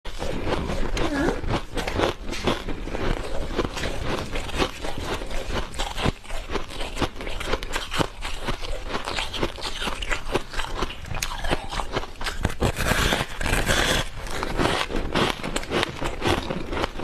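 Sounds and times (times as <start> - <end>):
chewing crunchy ice: 0.1 - 17.0.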